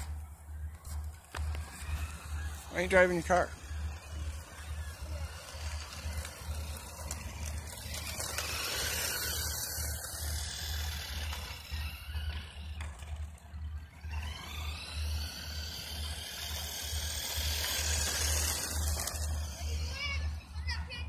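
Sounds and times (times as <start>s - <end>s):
toy electric motor whirring: 0.0s - 20.7s
plastic wheels rattling on asphalt: 0.0s - 21.0s.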